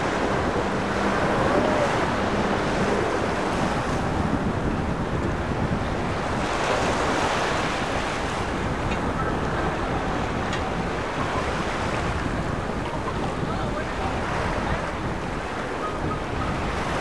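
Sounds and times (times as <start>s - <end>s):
outboard motor hum: 0.0s - 17.0s
surf and waves breaking: 0.0s - 17.0s
wind noise on microphone: 0.0s - 17.0s.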